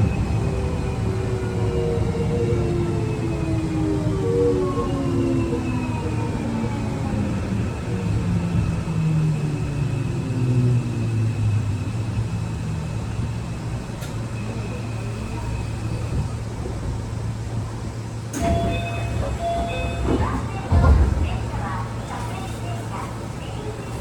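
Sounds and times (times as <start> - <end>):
train motor inverter whine: 0.0 - 24.0
wheels running on rails: 2.9 - 24.0.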